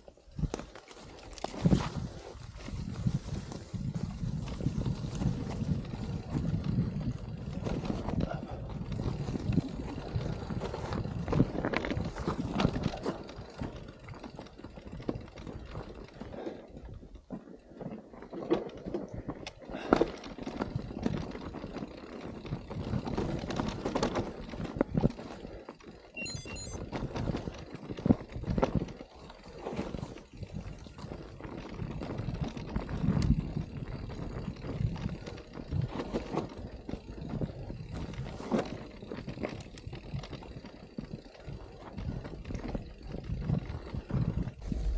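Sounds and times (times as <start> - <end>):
bike rumbling over rough trail: 0.0 - 44.9.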